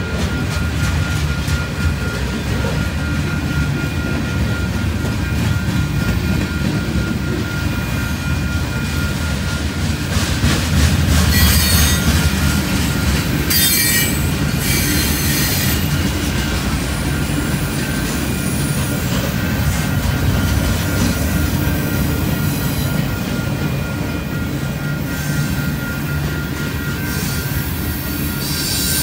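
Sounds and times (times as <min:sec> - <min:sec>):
freight train rumbling past: 0:00.0 - 0:29.0
train wheel squeal: 0:00.0 - 0:29.0.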